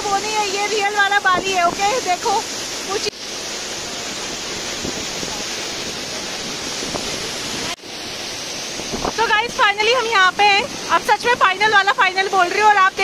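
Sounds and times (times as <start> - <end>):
waterfall crashing into pool: 0.0 - 13.0.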